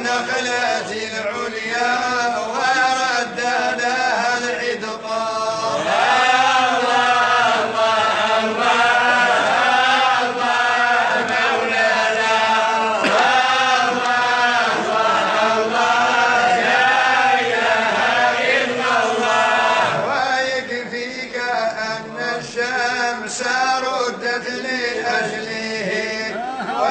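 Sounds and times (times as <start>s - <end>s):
person chanting melodically: 0.0s - 26.9s.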